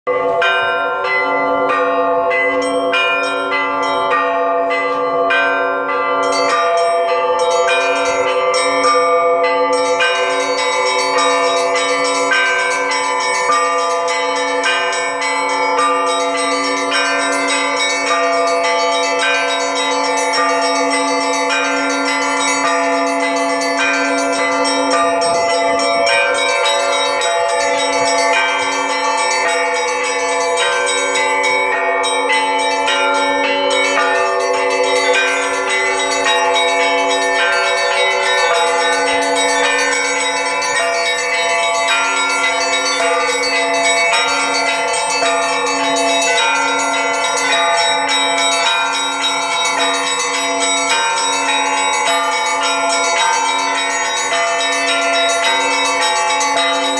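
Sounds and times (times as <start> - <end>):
deep large bell ringing: 0.1 - 56.9
small bells struck quickly: 0.4 - 56.9.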